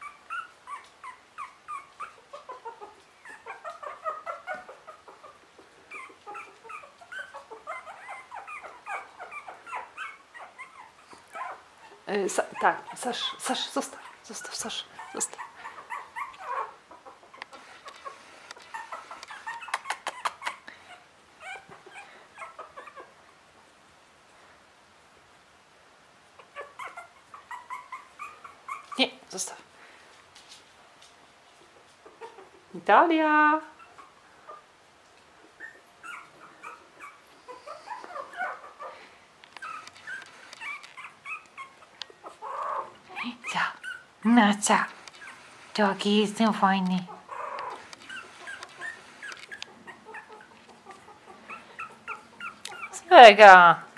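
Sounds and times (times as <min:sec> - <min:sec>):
puppies squeaking and whimpering: 0:00.0 - 0:23.2, 0:26.4 - 0:29.3, 0:31.7 - 0:32.7, 0:33.6 - 0:34.8, 0:35.4 - 0:53.9.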